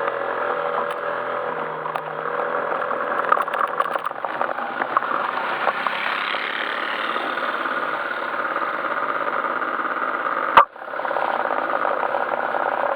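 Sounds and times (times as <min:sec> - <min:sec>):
scooter engine running: 0:00.0 - 0:12.9.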